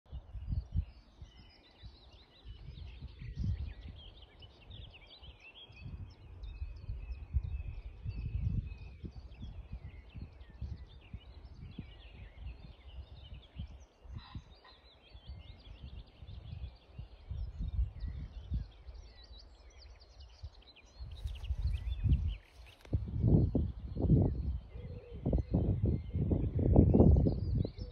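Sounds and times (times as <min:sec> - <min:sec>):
small birds chirping: 0:00.1 - 0:27.9
wind on microphone: 0:00.1 - 0:27.9.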